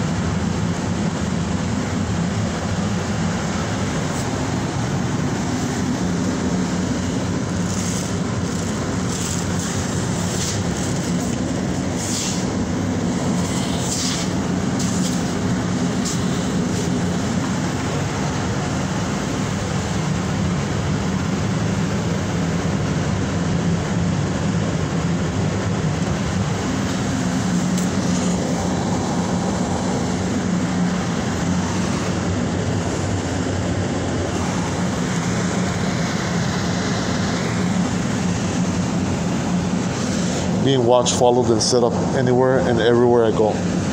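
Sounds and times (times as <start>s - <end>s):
subway train rumbling on rails: 0.0s - 43.9s.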